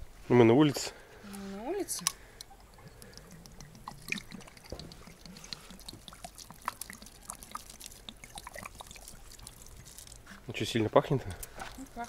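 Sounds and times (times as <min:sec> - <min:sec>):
liquid dripping and splashing: 0:01.9 - 0:12.0.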